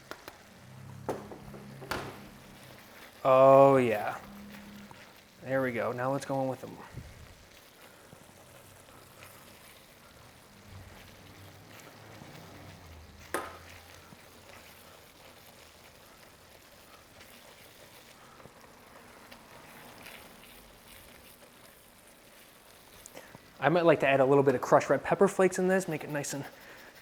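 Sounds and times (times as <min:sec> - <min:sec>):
risotto simmering and stirred: 0:00.0 - 0:27.0.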